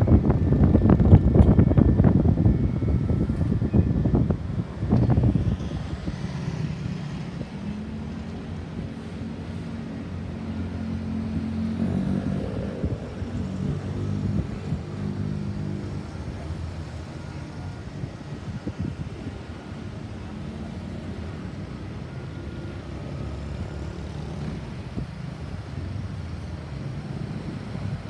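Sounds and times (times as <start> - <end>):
vehicle engine hum in traffic: 0.0 - 28.0.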